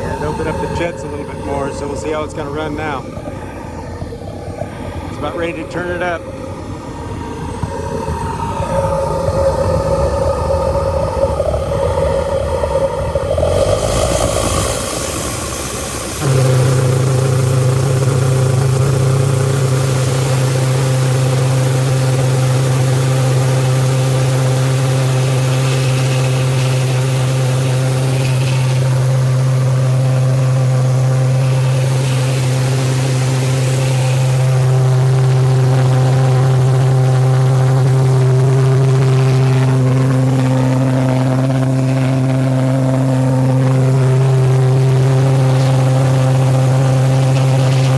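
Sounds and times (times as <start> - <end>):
jet engine drone: 0.0 - 47.9.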